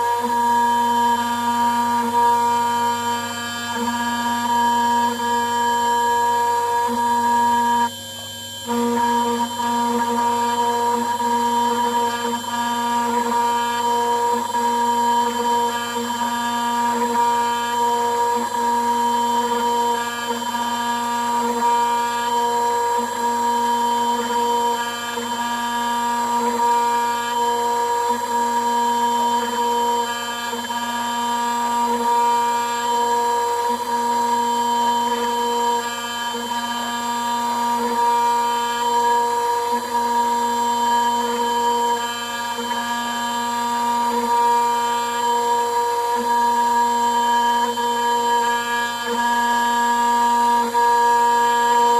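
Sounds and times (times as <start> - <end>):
router spindle whining cutting metal: 0.0 - 51.9.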